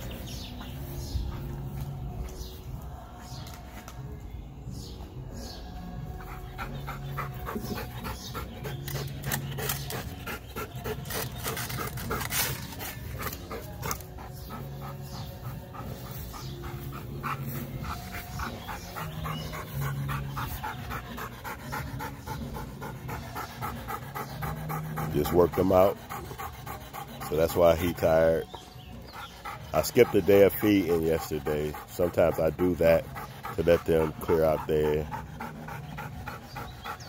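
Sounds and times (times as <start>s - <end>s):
dog panting hard: 0.0s - 4.1s, 4.7s - 37.0s.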